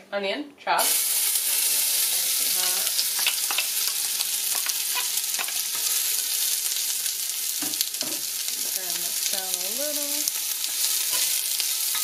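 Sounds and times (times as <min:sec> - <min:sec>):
onion sizzling in oil: 0:00.8 - 0:12.0.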